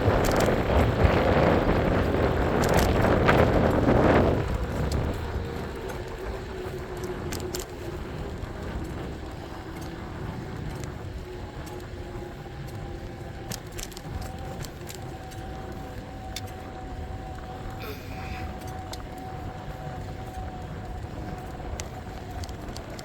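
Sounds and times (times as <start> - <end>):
faint motor whine: 0.0 - 23.0
light ticks and clicks: 0.0 - 23.0
tyre and wind rumble: 0.0 - 23.0.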